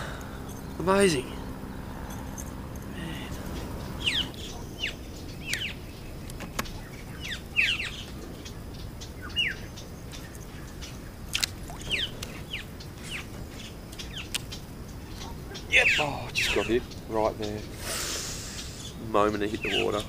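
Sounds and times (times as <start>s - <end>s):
birds chirping downward: 0.0s - 20.0s.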